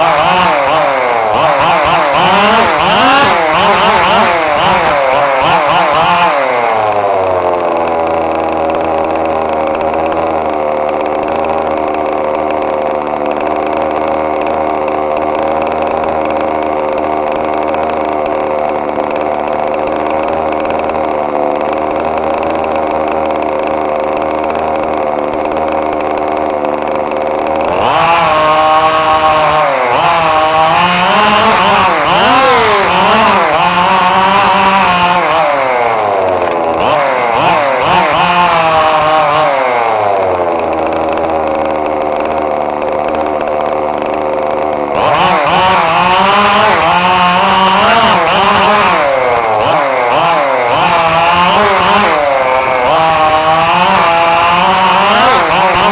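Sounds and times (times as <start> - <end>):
small rc car engine revving: 0.0 - 55.9.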